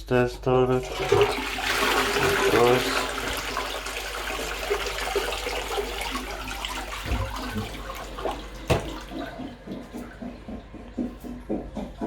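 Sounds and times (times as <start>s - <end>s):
toilet cistern refilling: 0.7s - 12.0s.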